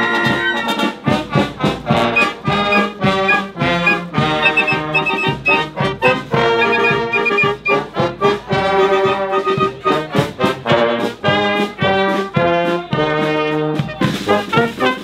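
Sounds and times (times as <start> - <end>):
brass marching band playing: 0.0 - 15.0.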